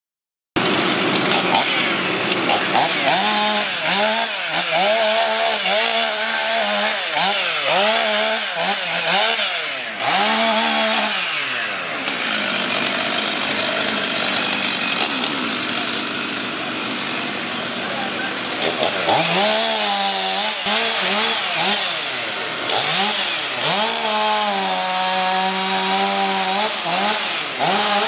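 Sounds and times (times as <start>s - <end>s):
chainsaw cutting wood: 0.6s - 28.0s.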